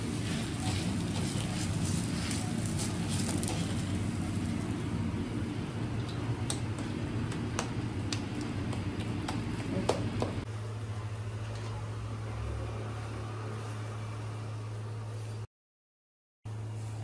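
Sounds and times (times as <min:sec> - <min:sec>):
kitchen hum and hiss: 0:00.0 - 0:15.5, 0:16.5 - 0:17.0.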